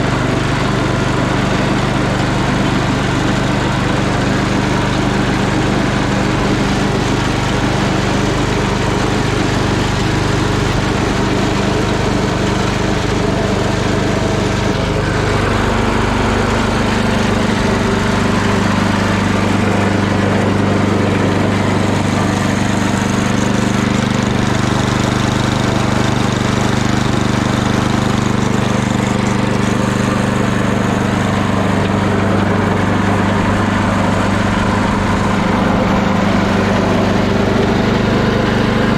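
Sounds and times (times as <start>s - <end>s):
snow blower engine running: 0.0s - 38.9s.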